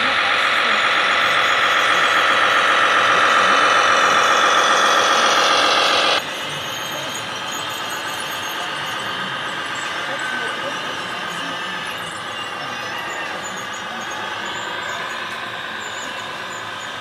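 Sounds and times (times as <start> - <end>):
toy truck motor whine: 0.0 - 17.0.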